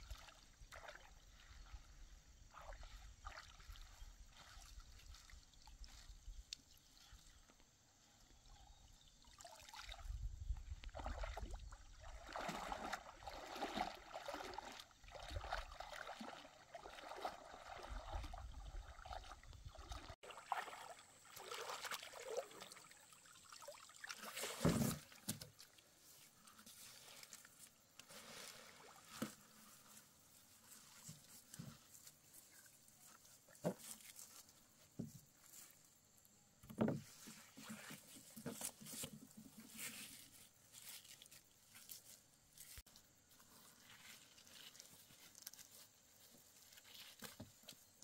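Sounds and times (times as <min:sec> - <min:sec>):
water splashing and trickling: 0:00.0 - 0:07.8, 0:08.9 - 0:48.0.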